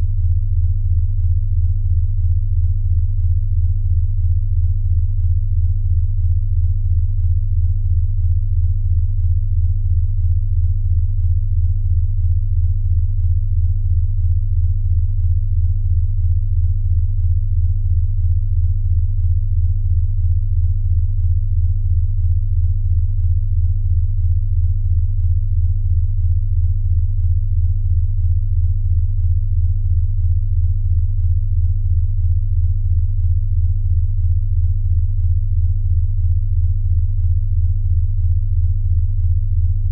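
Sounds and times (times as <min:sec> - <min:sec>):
pulsing low sine tone: 0:00.0 - 0:39.9.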